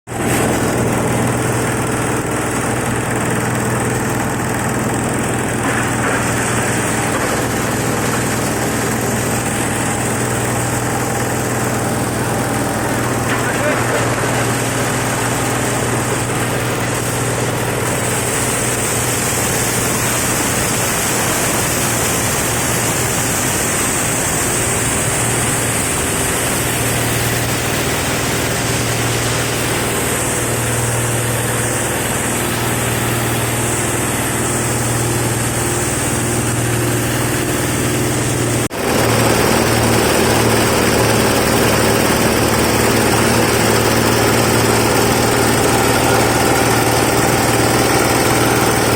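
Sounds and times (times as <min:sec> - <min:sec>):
flour grinder humming: 0:00.1 - 0:48.9.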